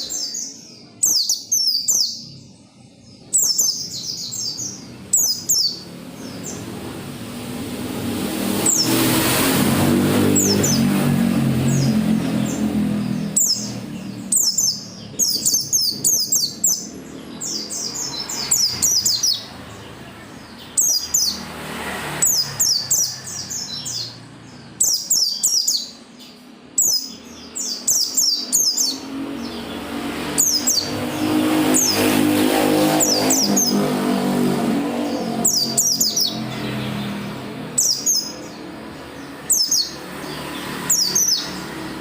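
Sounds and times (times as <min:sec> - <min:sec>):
bird twittering: 0:00.0 - 0:06.9, 0:08.5 - 0:21.6, 0:22.2 - 0:42.0.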